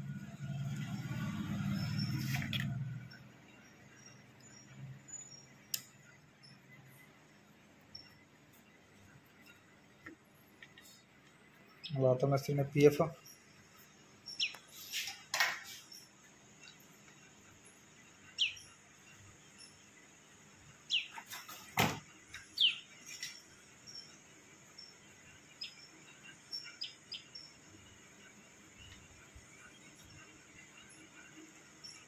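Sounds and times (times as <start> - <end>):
bird chirping: 0.1 - 32.0.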